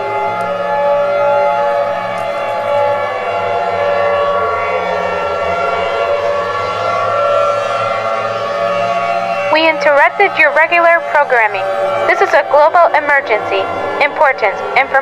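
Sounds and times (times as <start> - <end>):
warning siren: 0.0 - 15.0.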